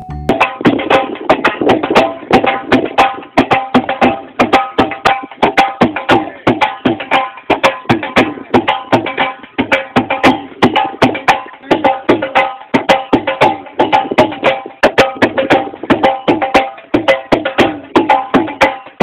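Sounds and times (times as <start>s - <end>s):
fast drumming: 0.0s - 19.0s.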